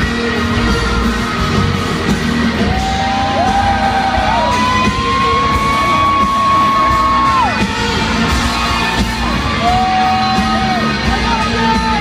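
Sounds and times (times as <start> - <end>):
country-rock band playing: 0.0 - 12.0.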